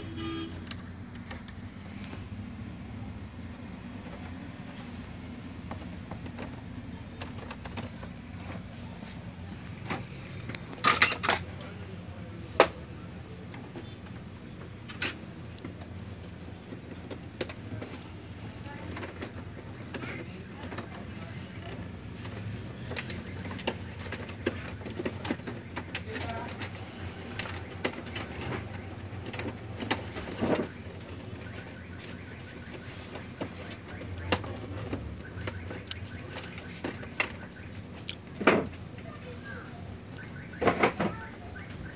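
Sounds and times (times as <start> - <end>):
plastic parts clicking and knocking: 0.6 - 39.1, 40.0 - 41.9.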